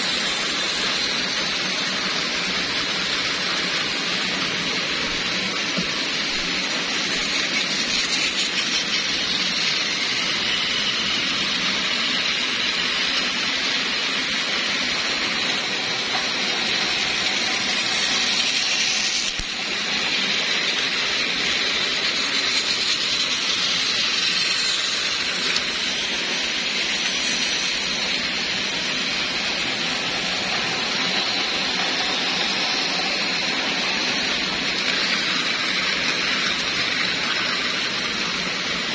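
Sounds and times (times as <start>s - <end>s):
toy train motors whirring: 0.0s - 38.9s.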